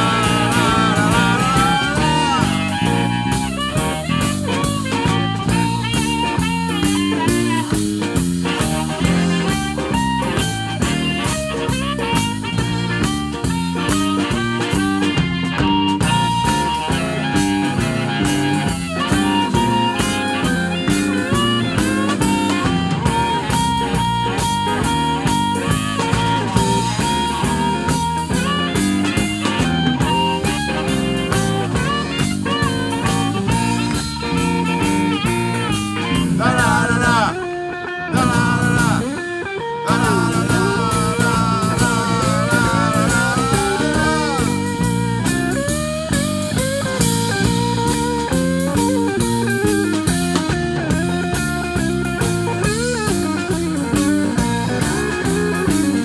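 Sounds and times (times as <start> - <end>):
harmonica: 0.0 - 39.2, 39.8 - 56.0
drum kit: 0.0 - 56.0
electric bass: 0.0 - 56.0
electric guitar: 0.0 - 56.0.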